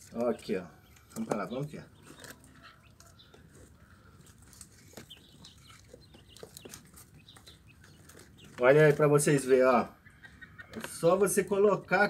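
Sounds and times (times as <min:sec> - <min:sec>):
quail chirping softly: 0:00.1 - 0:12.0.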